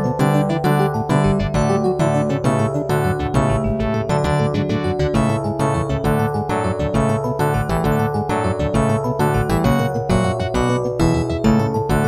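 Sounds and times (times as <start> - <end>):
synthesized phone ringtone melody: 0.0 - 12.0.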